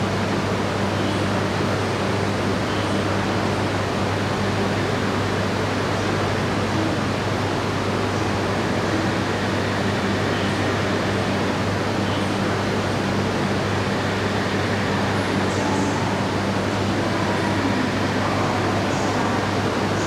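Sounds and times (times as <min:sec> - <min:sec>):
train rushing noise with low hum: 0:00.0 - 0:20.0.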